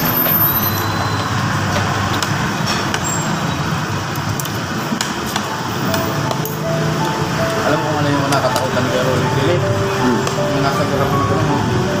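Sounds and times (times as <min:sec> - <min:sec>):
rumbling background noise: 0:00.0 - 0:12.0.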